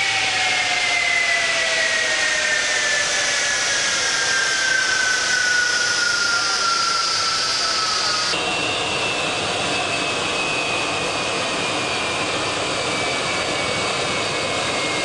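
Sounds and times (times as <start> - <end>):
jet turbine whine: 0.0 - 15.0.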